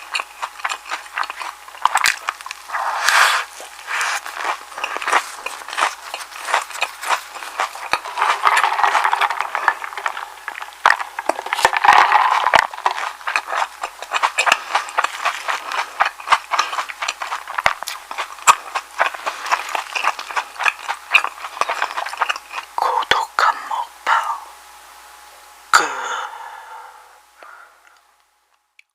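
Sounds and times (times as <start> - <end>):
mouth chewing with clicks: 0.0 - 23.4.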